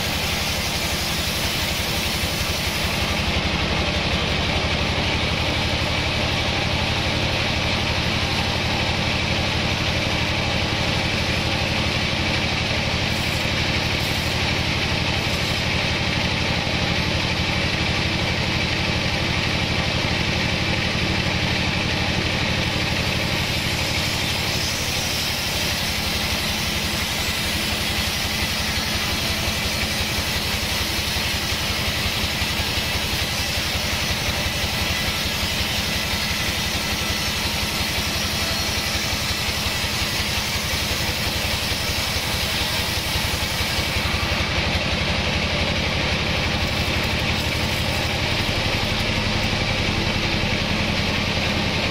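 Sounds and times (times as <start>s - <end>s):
band saw cutting through log: 0.0s - 51.9s.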